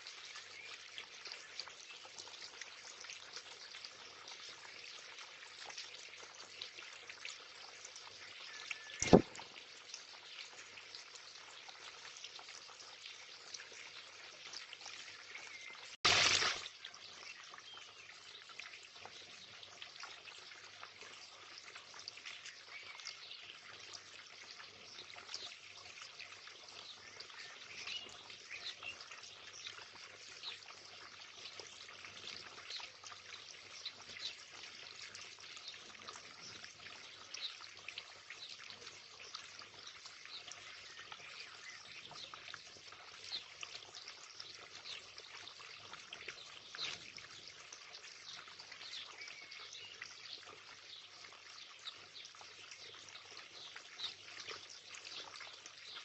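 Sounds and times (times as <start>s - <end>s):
water feature trickling and splashing: 0.0s - 56.0s.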